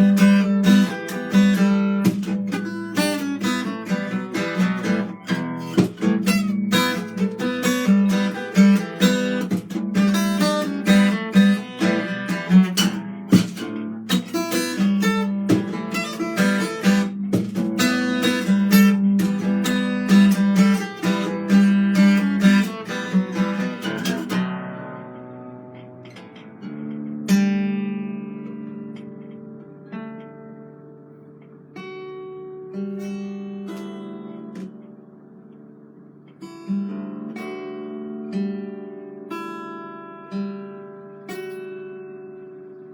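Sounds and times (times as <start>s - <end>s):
acoustic guitar: 0.0s - 42.9s.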